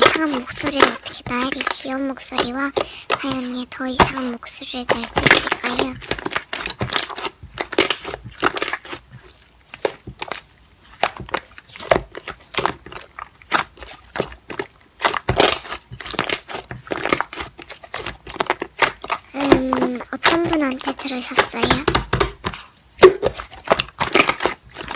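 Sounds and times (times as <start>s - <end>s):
slime crackling and popping: 0.0s - 24.9s.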